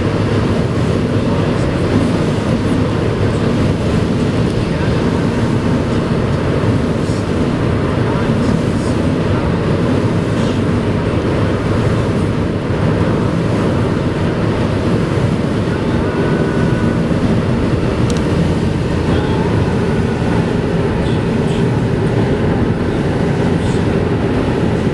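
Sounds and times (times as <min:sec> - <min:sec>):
car engine running: 0:00.0 - 0:24.9
tyre and road noise: 0:00.0 - 0:24.9.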